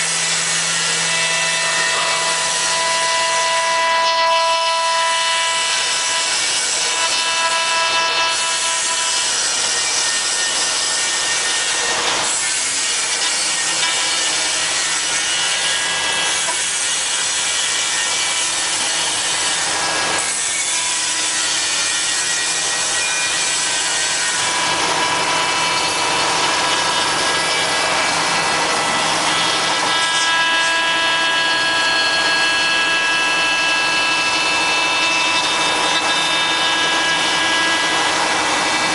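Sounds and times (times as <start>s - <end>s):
router spindle milling wood: 0.0s - 38.9s.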